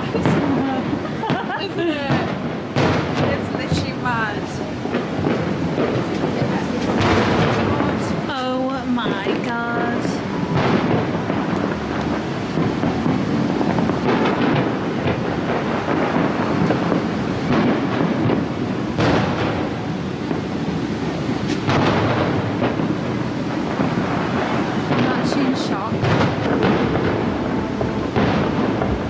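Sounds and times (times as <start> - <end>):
fireworks booming and crackling: 0.0 - 29.0
sharp firework bangs: 0.0 - 29.0.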